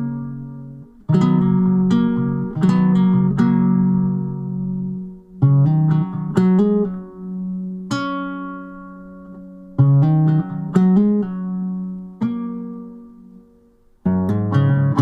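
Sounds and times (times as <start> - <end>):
plucked string instrument tune: 0.0 - 15.0.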